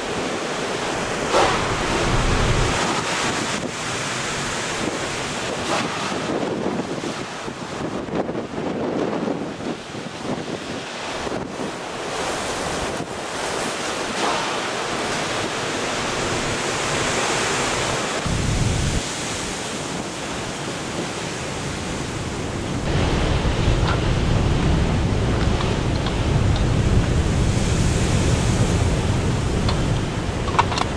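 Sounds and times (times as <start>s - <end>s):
storm surf breaking: 0.0s - 30.9s
wind buffeting microphone: 0.0s - 30.9s.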